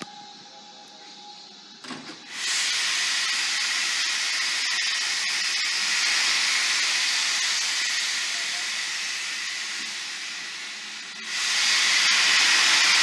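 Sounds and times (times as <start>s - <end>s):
steam locomotive hissing: 2.2s - 13.0s.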